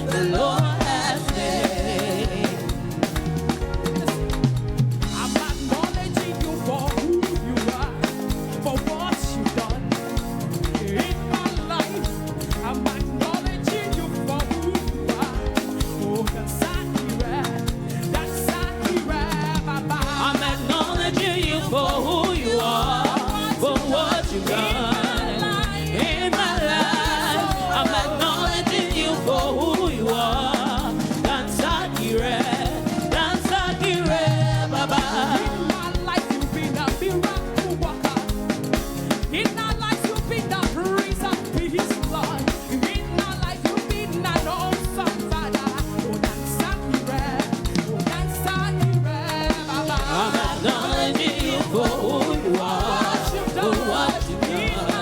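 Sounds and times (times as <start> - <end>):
band with drums and bass: 0.0 - 55.0
voices singing worship song: 0.0 - 55.0.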